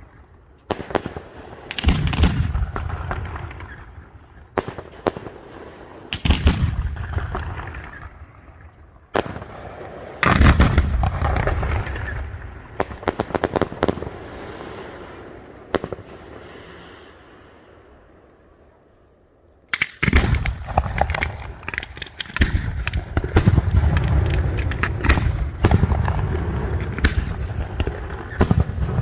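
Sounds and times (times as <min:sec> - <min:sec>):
fireworks bursting with loud bangs: 0:00.0 - 0:17.5, 0:20.0 - 0:29.0
rumble and crackle of fireworks: 0:00.0 - 0:29.0.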